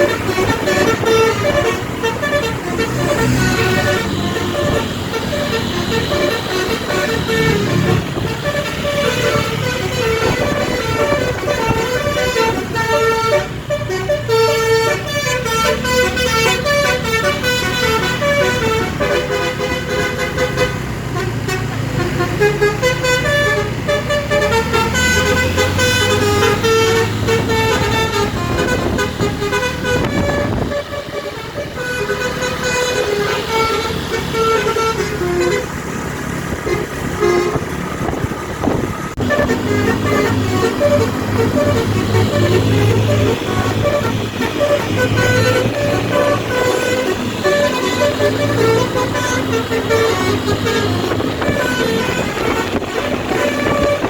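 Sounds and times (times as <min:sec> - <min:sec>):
air horn playing a melody: 0:00.0 - 0:36.0, 0:36.6 - 0:37.8, 0:39.2 - 0:54.0
bus engine running: 0:00.0 - 0:54.0.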